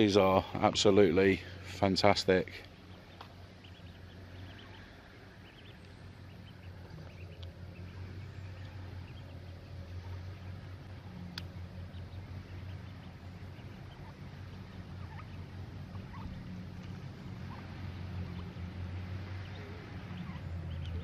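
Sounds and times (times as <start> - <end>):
ducklings peeping: 0.0 - 21.0
steady low rumble: 0.0 - 21.0.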